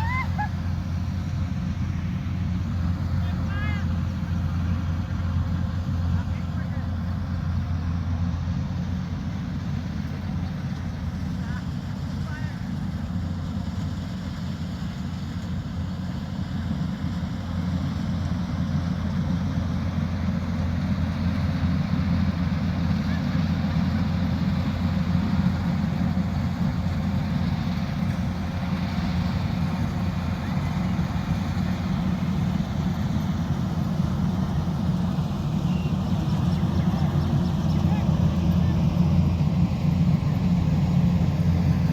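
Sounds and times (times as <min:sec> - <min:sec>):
combine harvester engine drone: 0:00.0 - 0:41.9.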